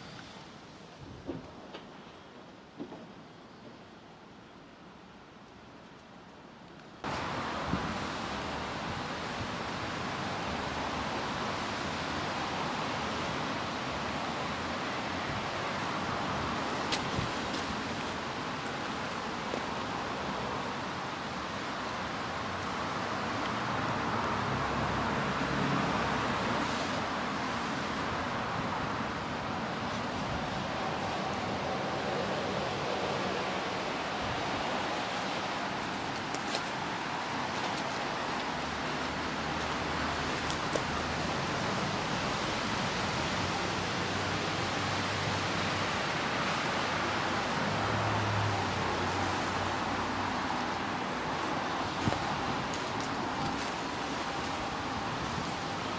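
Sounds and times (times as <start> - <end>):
road traffic: 0.0 - 2.6, 6.5 - 55.9
rain: 0.0 - 55.9
vehicle passing on wet road: 7.1 - 55.9.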